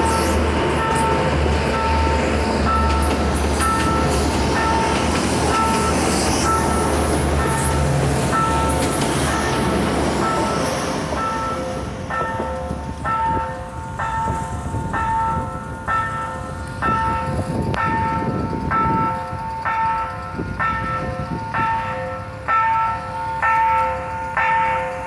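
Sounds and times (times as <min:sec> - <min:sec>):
level crossing warning bell: 0:00.0 - 0:25.0
passing train rumble: 0:00.0 - 0:25.0.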